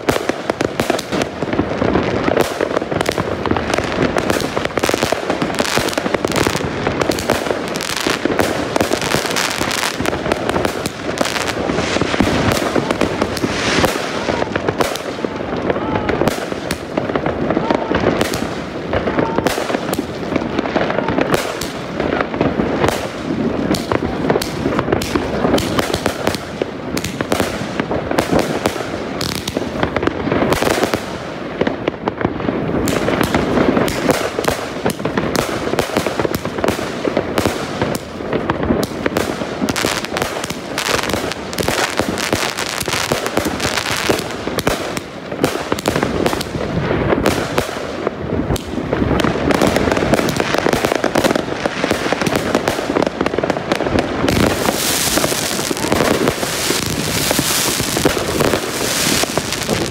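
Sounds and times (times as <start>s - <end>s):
firework crackle: 0.0s - 59.9s.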